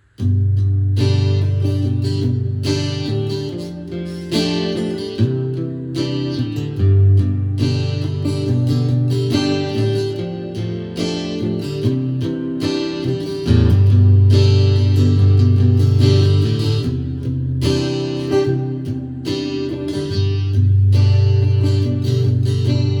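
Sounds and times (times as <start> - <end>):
acoustic guitar chords: 0.0 - 23.0.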